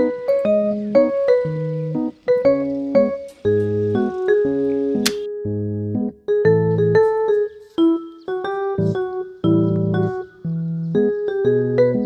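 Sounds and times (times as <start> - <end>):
bass notes: 0.0 - 7.2, 8.8 - 12.0
soft keyboard tune: 0.0 - 12.0.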